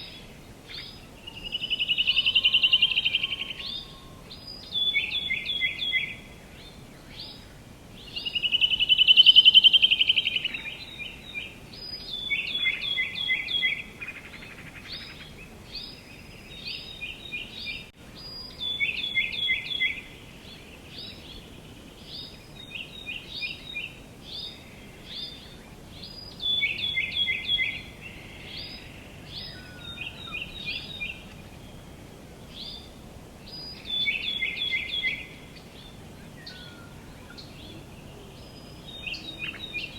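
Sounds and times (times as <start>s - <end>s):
faint outdoor hiss: 0.0s - 39.9s
songbirds singing: 0.0s - 39.9s.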